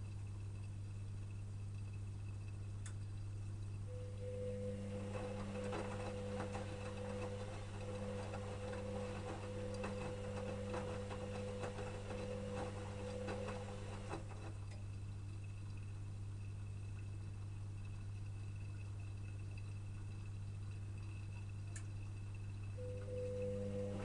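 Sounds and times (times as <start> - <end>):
low steady hum: 0.0 - 24.0
washing machine motor hum: 0.0 - 24.0.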